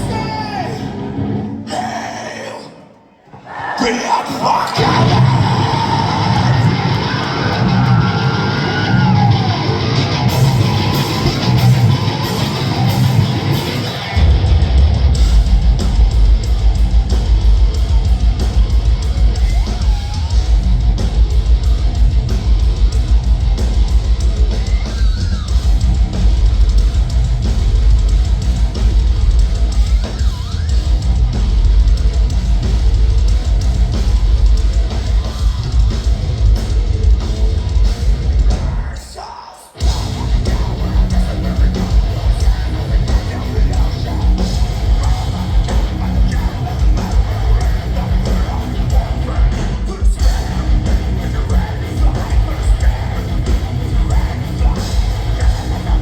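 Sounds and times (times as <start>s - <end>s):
fast drums: 0.0s - 0.9s, 4.4s - 39.2s, 39.8s - 56.0s
distorted guitars: 0.0s - 56.0s.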